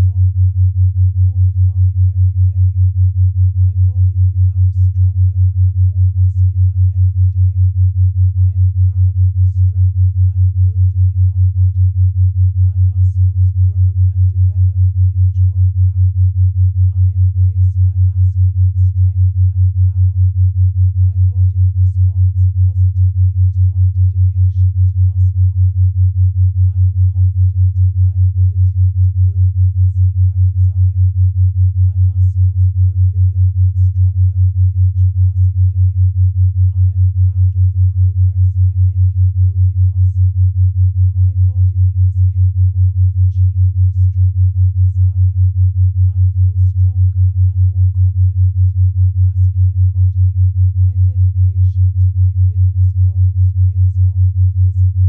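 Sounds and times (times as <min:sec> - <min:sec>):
pulsing low pure tone: 0:00.0 - 0:55.0.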